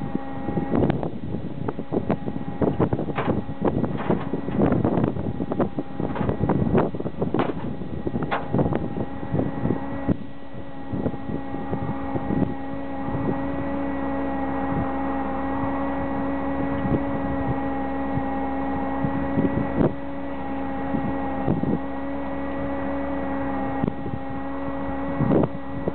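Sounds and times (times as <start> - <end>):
steady mechanical hum: 0.0 - 25.9
wind buffeting the microphone: 0.0 - 25.9.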